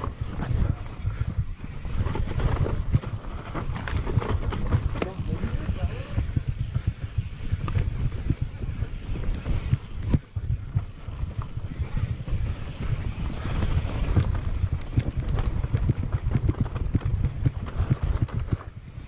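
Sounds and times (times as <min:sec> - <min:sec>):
bike rattling: 0:00.0 - 0:19.0
bike tyres rumbling over dirt: 0:00.0 - 0:19.0
wind buffeting microphone: 0:00.0 - 0:19.0.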